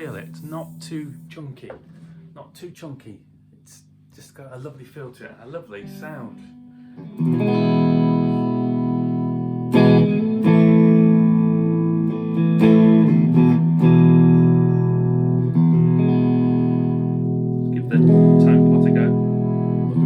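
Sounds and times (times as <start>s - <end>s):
electric guitar chords ringing: 0.0s - 2.6s, 5.7s - 20.0s.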